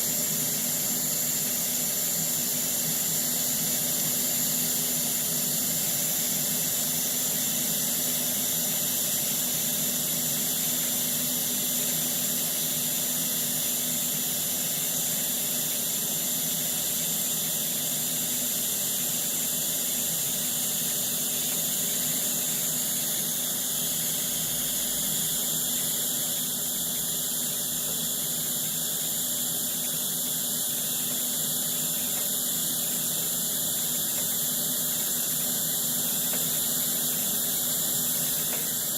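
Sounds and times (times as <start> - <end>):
welding arc hissing: 0.0 - 38.9.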